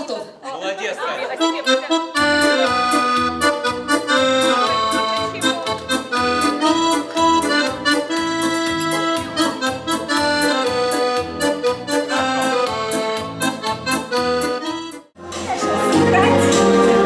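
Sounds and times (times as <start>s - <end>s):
electronic keyboard dance music: 1.3s - 17.0s.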